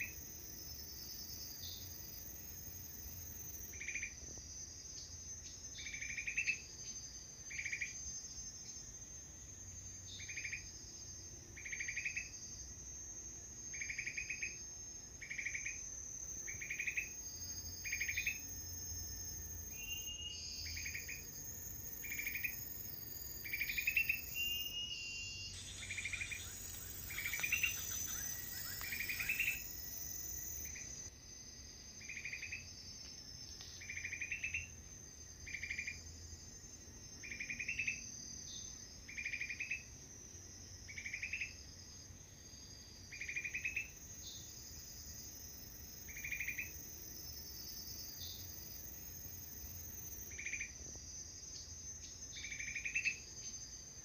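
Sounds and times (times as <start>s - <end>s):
insect high-pitched drone: 0.0s - 54.0s
insect pulsing chirp: 0.0s - 54.0s.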